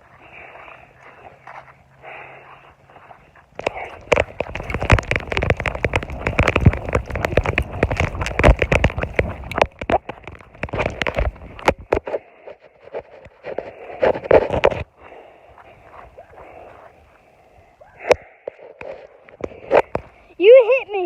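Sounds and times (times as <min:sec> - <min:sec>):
dry brush crunching underfoot: 0:00.0 - 0:20.7.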